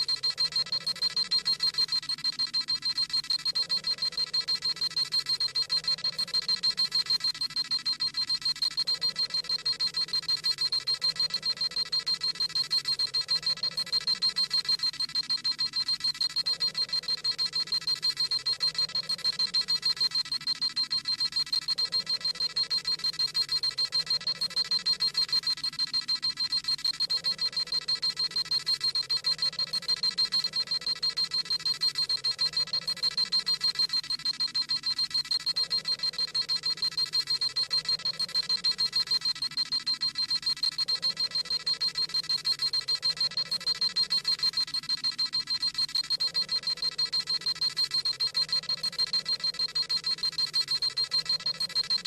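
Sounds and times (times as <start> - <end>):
rapid high-pitched electronic beeping: 0.0 - 52.0.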